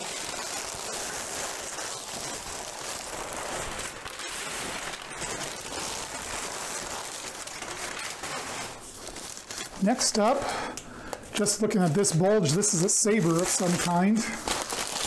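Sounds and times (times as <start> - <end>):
packing paper rustling: 0.0 - 15.0.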